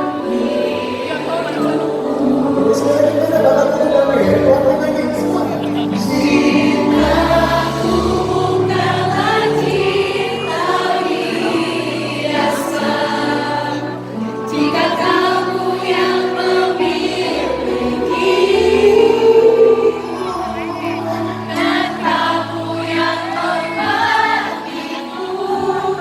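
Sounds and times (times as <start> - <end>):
live pop song with singing: 0.0 - 26.0.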